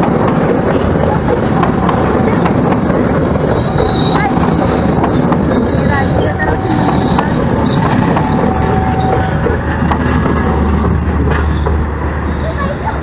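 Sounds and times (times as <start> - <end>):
train wheel clacks: 0.0 - 13.0
train wheels rumbling on rails: 0.0 - 13.0.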